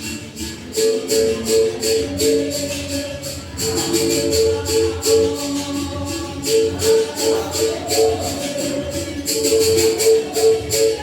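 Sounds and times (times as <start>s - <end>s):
berimbau notes: 0.0s - 11.0s
shaker rattling: 0.0s - 11.0s.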